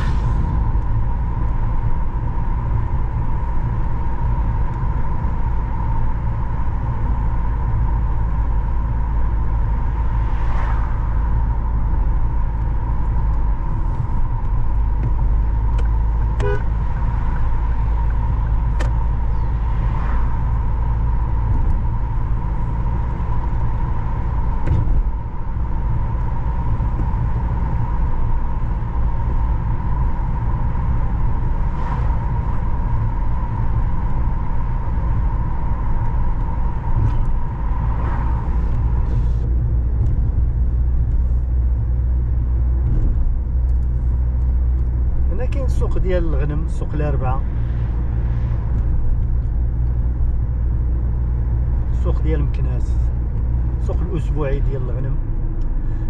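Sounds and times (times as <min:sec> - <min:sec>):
car rumbling on the move: 0:00.0 - 0:56.0.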